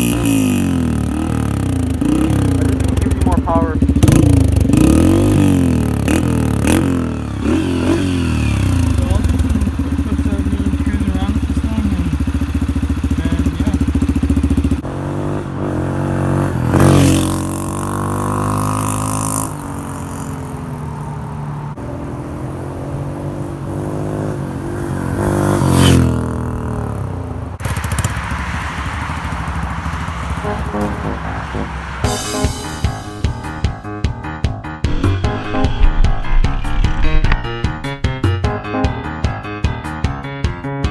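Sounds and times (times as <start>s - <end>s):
motorcycle engine revving: 0.0s - 33.4s, 34.9s - 38.6s.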